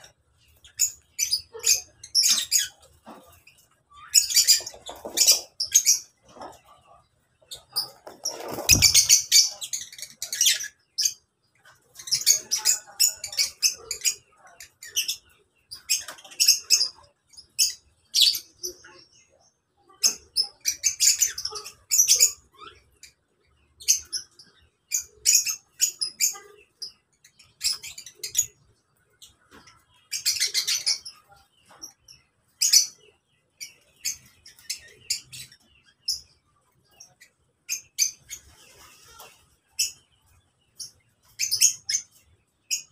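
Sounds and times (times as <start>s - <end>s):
birds chattering shrill chirps: 0.0s - 42.9s.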